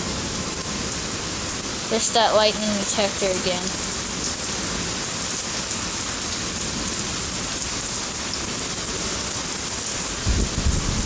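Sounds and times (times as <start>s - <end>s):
heavy rain on concrete: 0.0s - 11.0s.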